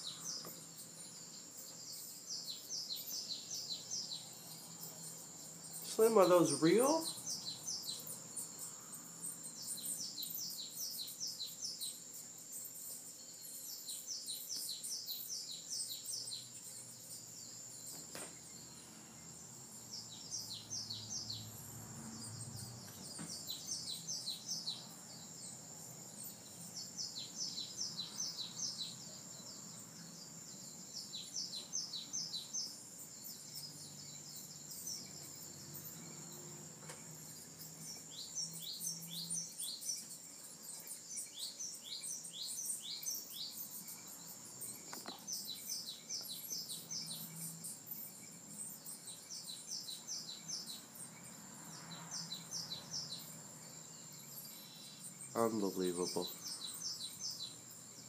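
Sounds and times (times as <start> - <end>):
bird chirping: 0.0 - 58.0
high insect-like tone: 0.0 - 58.0.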